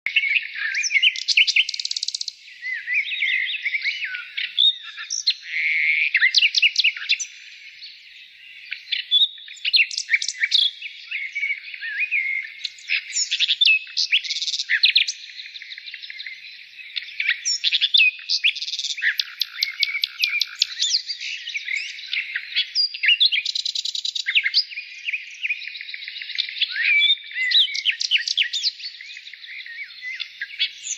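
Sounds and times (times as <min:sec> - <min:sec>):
birds chirping and trilling: 0:00.1 - 0:30.9.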